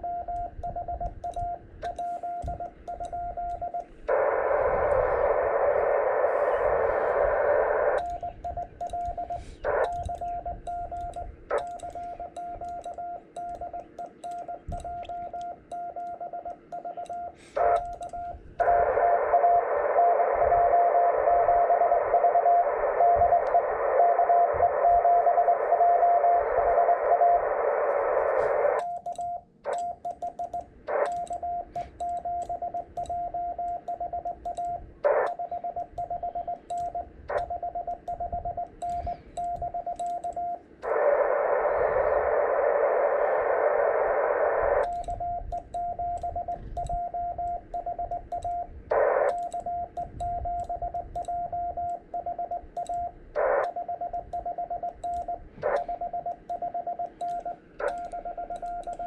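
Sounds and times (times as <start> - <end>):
morse code tone: 0.0 - 42.4, 44.6 - 59.0
faint clicks: 0.2 - 5.9, 6.6 - 20.0, 26.7 - 41.3, 44.7 - 59.0
radio hiss: 1.9 - 15.4, 16.2 - 28.8, 30.8 - 34.2, 34.8 - 51.2, 53.1 - 59.0.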